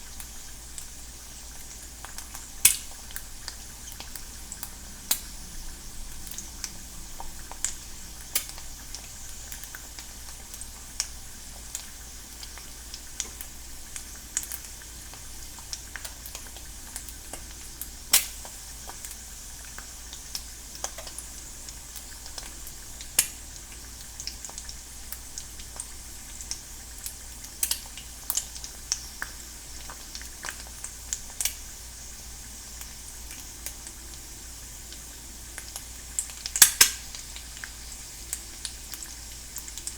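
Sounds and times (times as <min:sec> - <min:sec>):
egg sizzling in a pan: 0:00.0 - 0:39.9
crackles and pops: 0:01.7 - 0:05.3, 0:06.2 - 0:31.7, 0:34.9 - 0:39.9.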